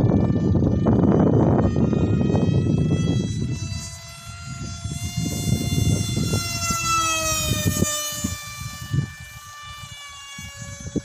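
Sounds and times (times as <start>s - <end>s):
electric motor whining: 0.0s - 11.0s
wind rumble on microphone: 0.0s - 11.0s.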